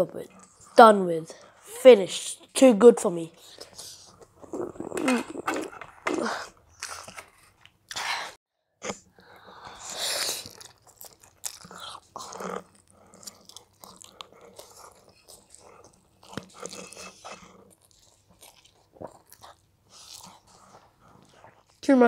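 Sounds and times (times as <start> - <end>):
person chewing food: 3.5 - 21.8.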